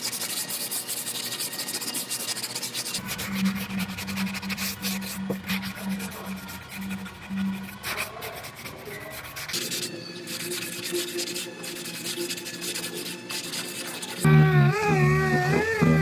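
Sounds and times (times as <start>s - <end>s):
sanding block scraping filler: 0.0s - 14.3s.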